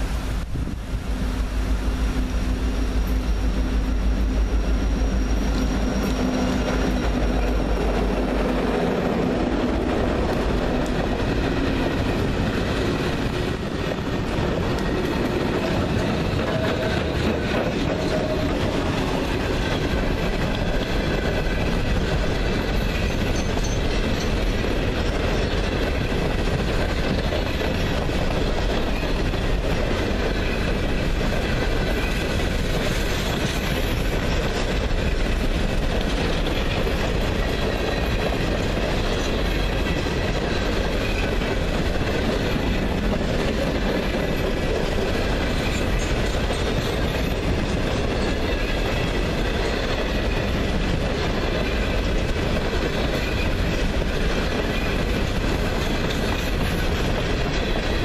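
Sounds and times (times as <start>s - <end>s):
diesel locomotive engine rumble: 0.0s - 58.0s
train wheels rolling over rails: 0.0s - 58.0s.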